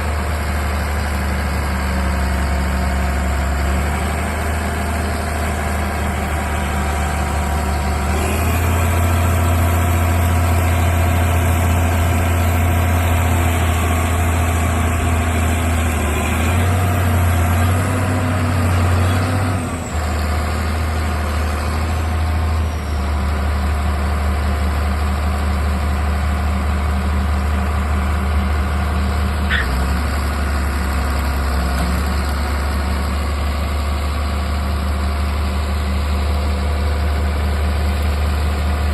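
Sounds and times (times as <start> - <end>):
diesel machinery engine drone: 0.0 - 38.9.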